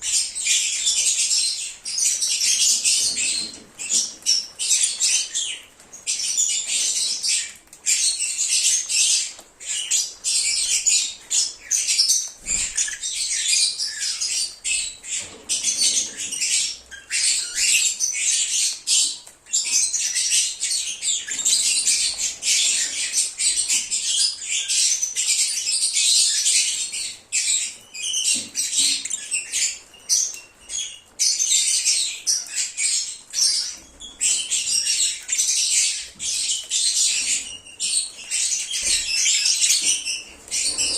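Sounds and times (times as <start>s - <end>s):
lovebirds chattering and chirping: 0.0s - 40.9s.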